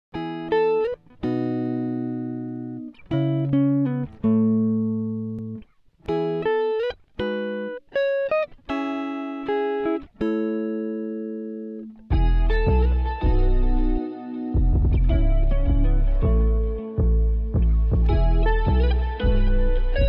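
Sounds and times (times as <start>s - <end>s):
slow gentle guitar music: 0.1s - 20.0s.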